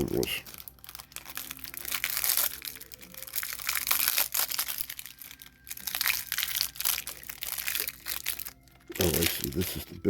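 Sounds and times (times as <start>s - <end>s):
wrapping crinkling and tearing: 0.0s - 10.0s.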